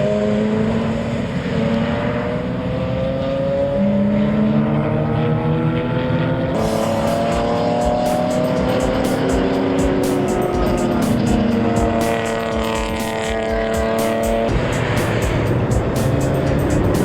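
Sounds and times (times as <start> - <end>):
engine crackling: 0.0 - 17.0
race car engines accelerating: 0.0 - 17.0.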